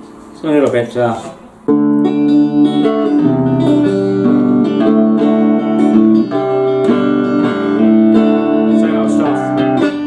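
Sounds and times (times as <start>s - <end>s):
electric guitar strummed chords: 1.6s - 10.0s.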